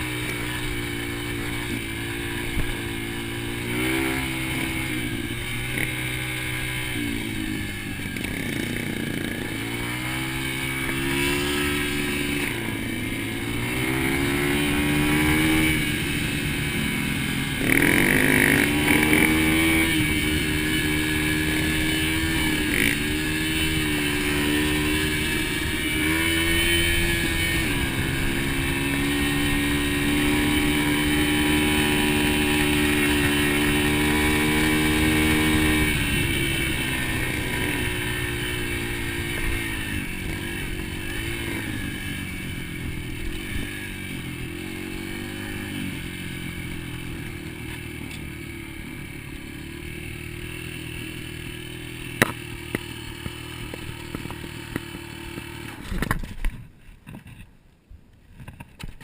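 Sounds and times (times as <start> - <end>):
dirt bike engine revving: 0.0 - 56.2.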